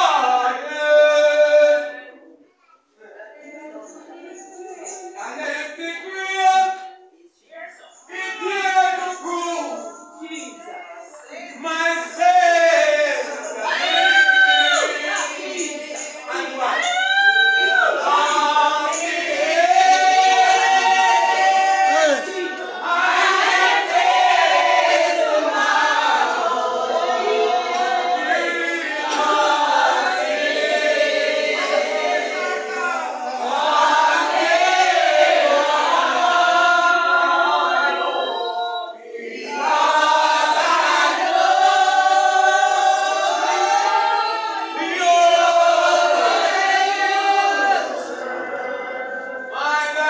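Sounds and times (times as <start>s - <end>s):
congregation singing: 0.0s - 50.0s.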